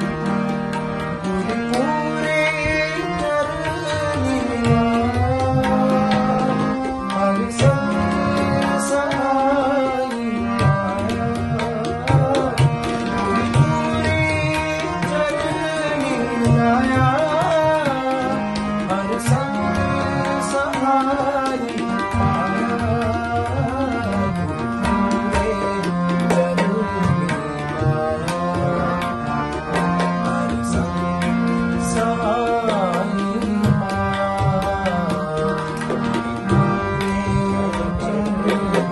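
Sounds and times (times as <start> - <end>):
harmonium chords: 0.0 - 38.9
tabla beating: 0.0 - 38.9.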